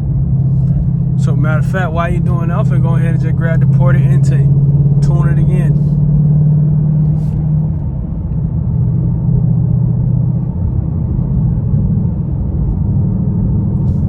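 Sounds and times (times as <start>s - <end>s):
car engine droning while driving: 0.0s - 14.0s.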